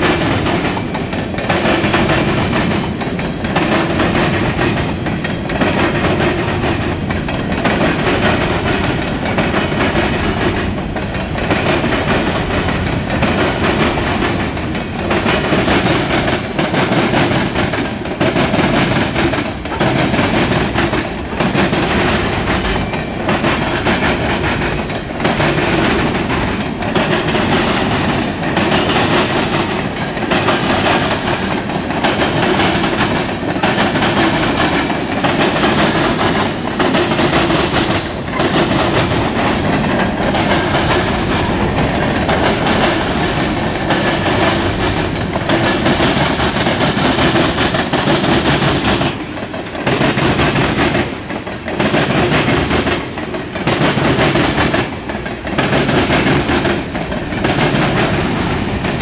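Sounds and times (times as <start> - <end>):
rhythmic clickety-clack: 0.0 - 59.0
train wheels rumbling on rails: 0.0 - 59.0.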